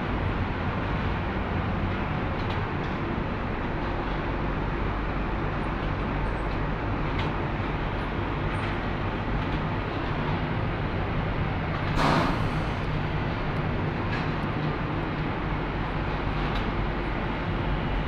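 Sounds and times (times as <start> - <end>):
extraction fan hum: 0.0 - 18.0.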